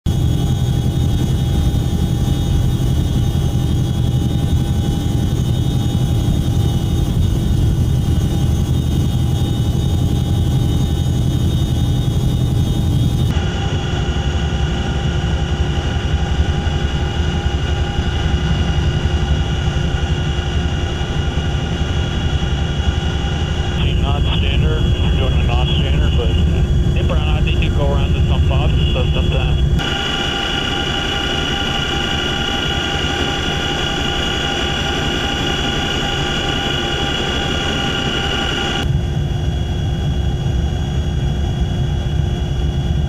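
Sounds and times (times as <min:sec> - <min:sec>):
helicopter rotor and turbine noise: 0:00.0 - 0:43.0.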